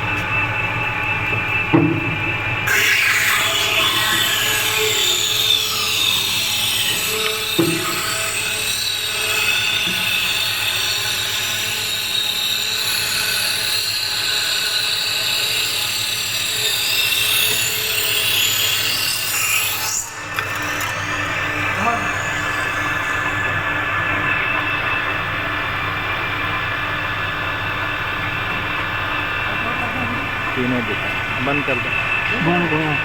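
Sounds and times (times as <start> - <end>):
machine high-pitched whine: 0.0 - 33.0.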